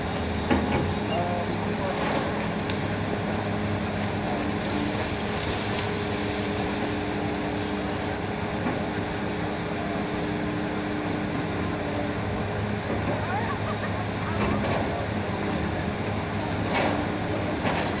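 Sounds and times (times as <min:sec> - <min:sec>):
excavator running: 0:00.0 - 0:18.0.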